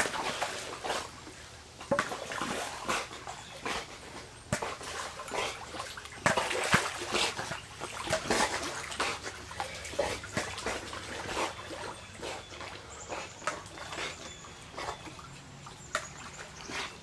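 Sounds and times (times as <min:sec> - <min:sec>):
water splashing in pool: 0:00.0 - 0:17.0.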